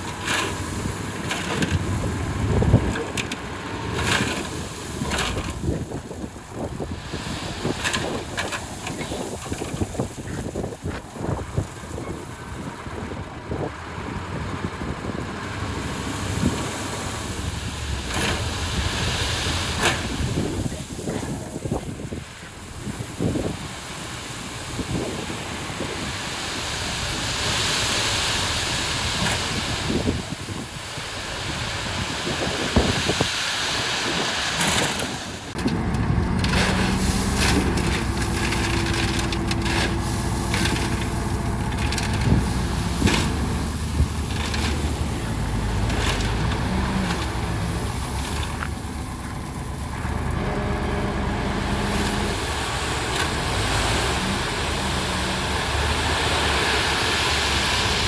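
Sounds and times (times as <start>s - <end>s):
heavy machine engine running: 0.0s - 58.0s
wind buffeting microphone: 0.0s - 58.0s.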